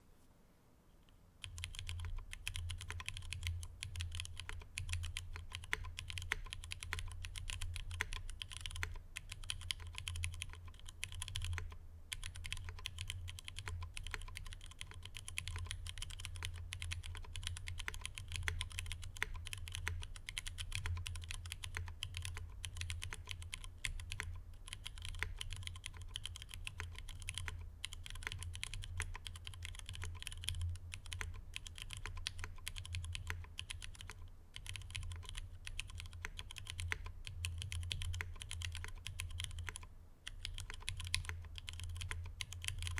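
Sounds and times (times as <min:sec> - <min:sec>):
fast mechanical keyboard typing: 0:01.4 - 0:42.9.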